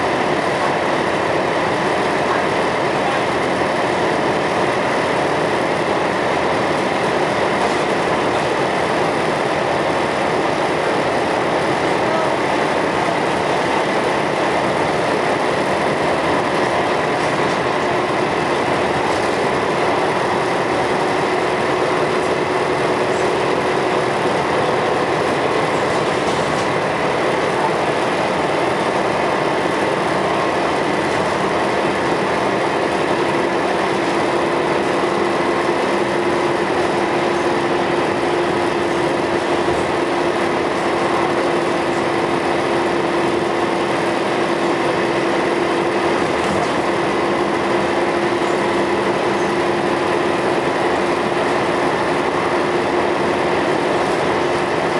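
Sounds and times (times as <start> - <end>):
diesel bus engine running: 0.0 - 54.9.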